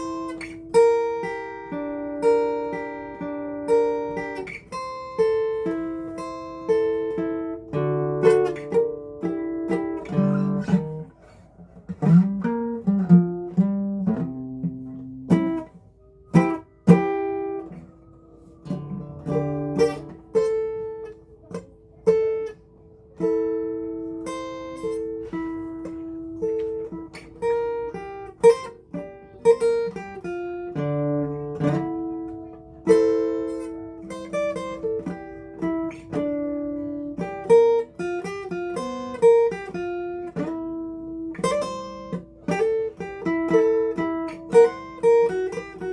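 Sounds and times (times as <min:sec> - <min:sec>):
acoustic guitar: 0:00.0 - 0:45.9.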